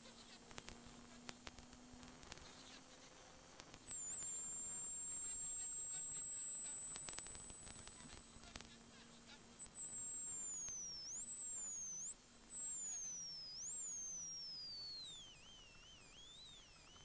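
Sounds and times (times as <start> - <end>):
faint low hum: 0.0 - 17.0
rally car high-pitched whine: 0.0 - 17.0.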